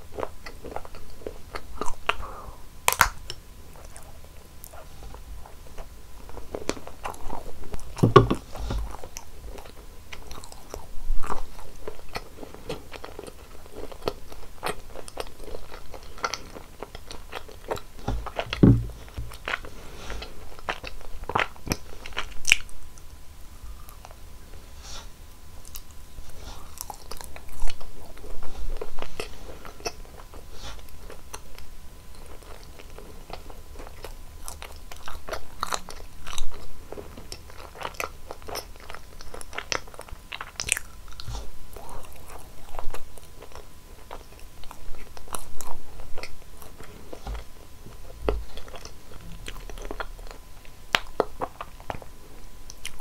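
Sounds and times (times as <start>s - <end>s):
chewy eating sounds: 0.0s - 53.0s.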